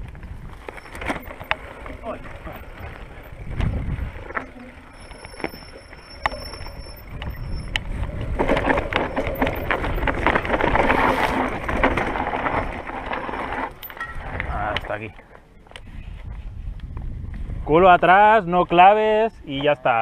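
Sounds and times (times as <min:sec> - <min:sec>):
bike tyres rolling over loose stones: 0:00.0 - 0:17.6
stones and bike rattling: 0:00.0 - 0:17.6.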